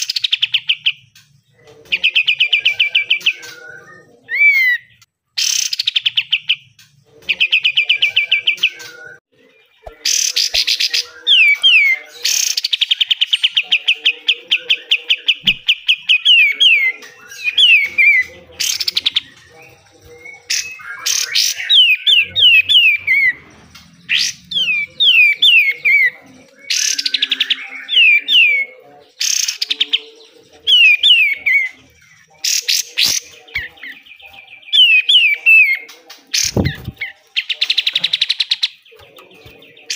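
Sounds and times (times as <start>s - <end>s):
songbird trilling and whistling: 1.9s - 6.7s, 7.3s - 39.9s.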